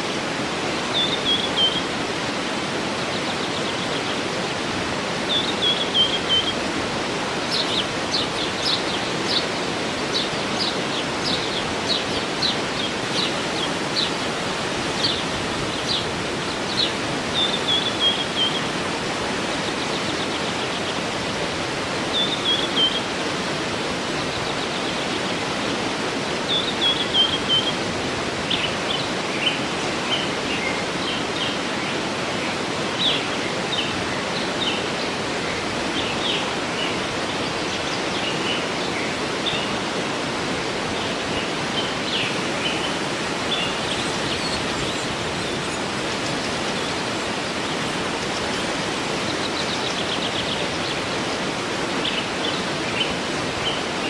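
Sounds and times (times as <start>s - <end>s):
waterfall rushing: 0.0s - 54.0s
birds singing: 0.6s - 27.8s, 28.4s - 40.2s, 40.9s - 54.0s.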